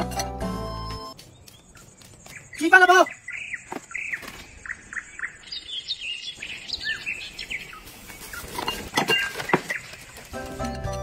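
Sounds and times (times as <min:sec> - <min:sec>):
small birds chirping: 0:01.0 - 0:10.7.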